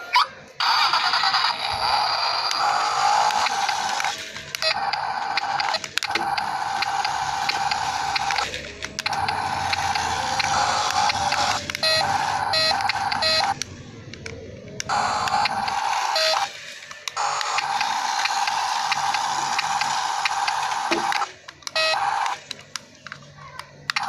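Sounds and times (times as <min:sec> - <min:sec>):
buzzy electronic toy sound effects: 0:00.0 - 0:13.7, 0:14.8 - 0:22.6.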